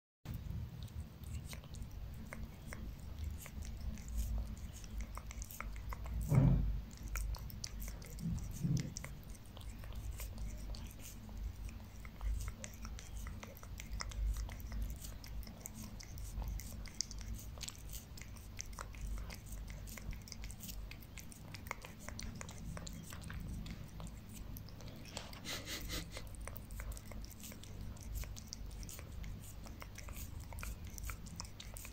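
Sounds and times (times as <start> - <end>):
cat lapping liquid: 0.3 - 31.9.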